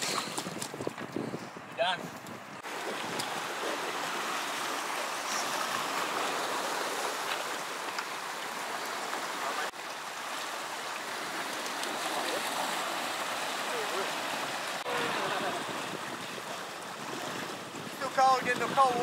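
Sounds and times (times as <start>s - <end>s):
waves washing over rocky shore: 2.6s - 19.0s.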